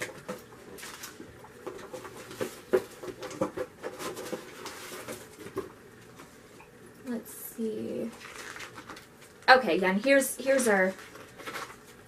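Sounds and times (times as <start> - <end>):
rustling paper and packaging: 0.0 - 6.5, 7.8 - 12.0.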